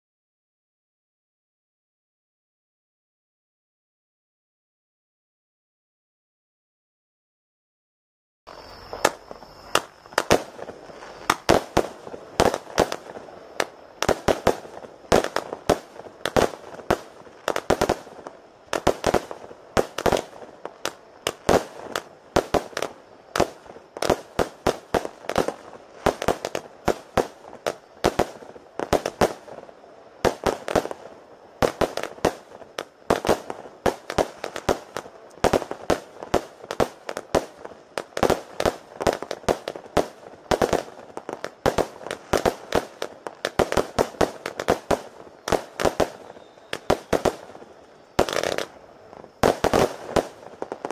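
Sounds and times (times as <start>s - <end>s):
firework battery shots: 8.5s - 50.9s.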